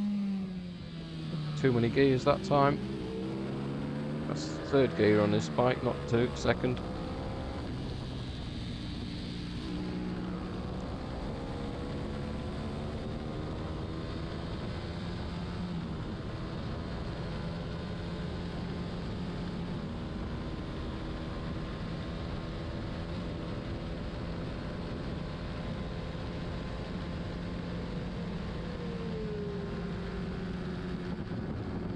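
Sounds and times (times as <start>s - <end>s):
racing motorcycle engine: 0.0s - 31.9s
wind and road rush: 0.0s - 31.9s.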